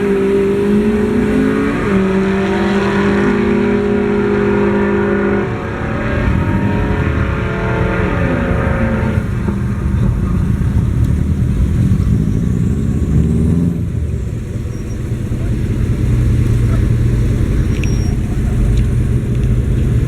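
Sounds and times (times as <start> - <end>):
racing car engine revving: 0.0 - 20.0
rough engine rumble: 0.0 - 20.0.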